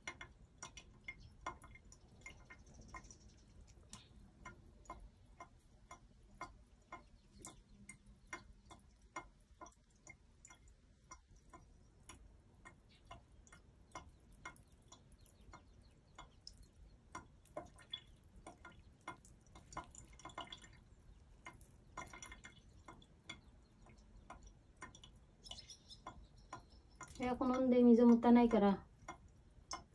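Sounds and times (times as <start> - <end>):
water dripping into sink: 0.0 - 29.9.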